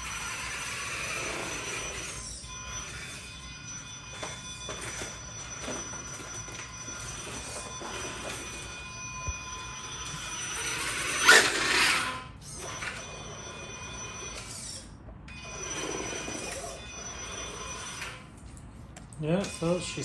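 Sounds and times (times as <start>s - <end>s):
rc truck motor whining: 0.0s - 18.4s, 19.3s - 20.0s.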